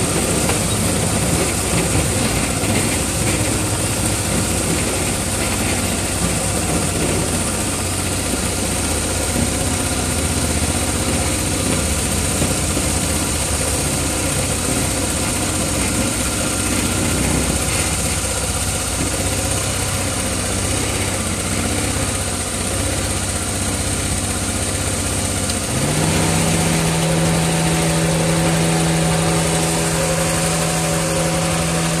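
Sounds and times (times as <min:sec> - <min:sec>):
miniature locomotive engine running: 0:00.0 - 0:32.0.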